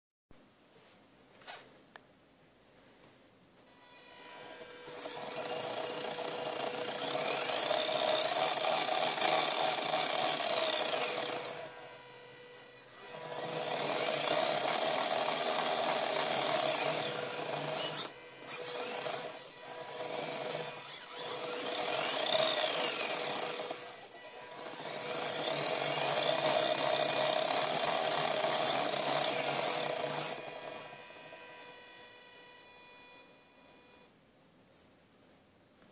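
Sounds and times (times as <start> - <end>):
small electric motor whining: 3.7 - 34.1.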